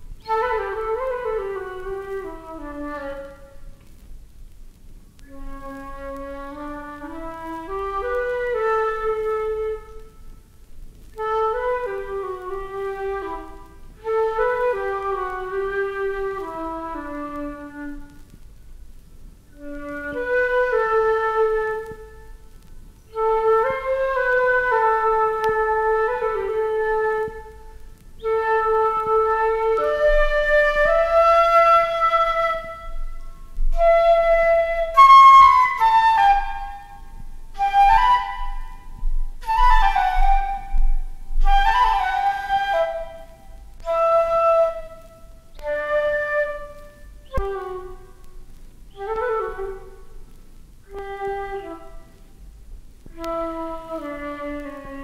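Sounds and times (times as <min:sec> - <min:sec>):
solo flute melody: 0:00.0 - 0:04.0, 0:05.2 - 0:18.4, 0:19.5 - 0:55.0.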